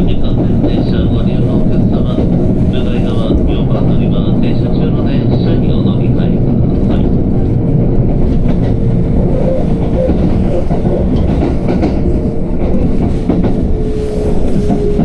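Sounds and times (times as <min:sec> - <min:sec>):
train rumbling: 0:00.0 - 0:15.0
train wheel clicks: 0:00.0 - 0:15.0.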